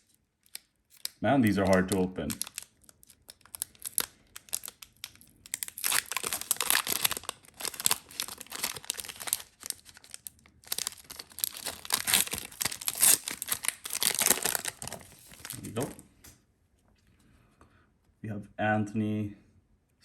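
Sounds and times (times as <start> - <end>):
wrapper crinkling and tearing: 0.0 - 16.0.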